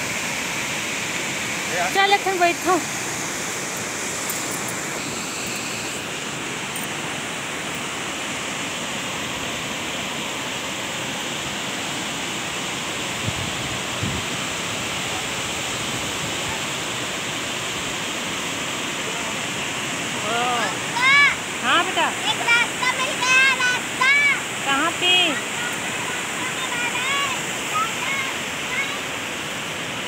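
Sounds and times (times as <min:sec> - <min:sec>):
waterfall rushing over rock: 0:00.0 - 0:30.0.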